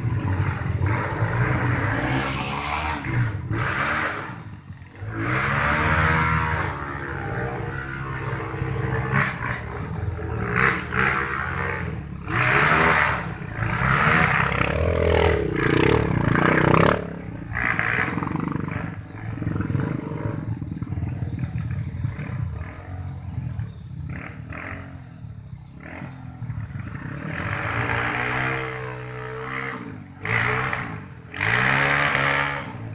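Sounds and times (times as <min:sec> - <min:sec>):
vehicle engine revving hard: 0:00.0 - 0:20.6, 0:25.8 - 0:32.9.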